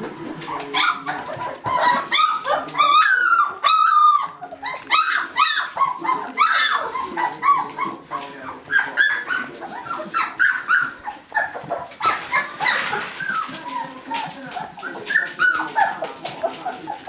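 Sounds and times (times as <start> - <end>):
puppies whining and yelping: 0.2 - 17.0.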